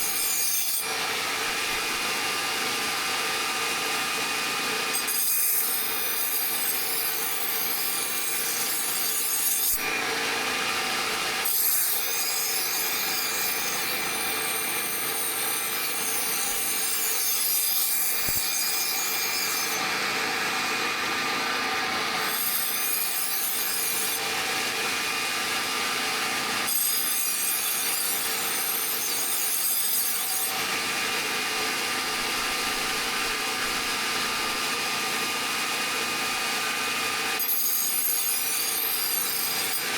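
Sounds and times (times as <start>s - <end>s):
tool rasping material: 0.0s - 3.0s, 4.8s - 39.9s.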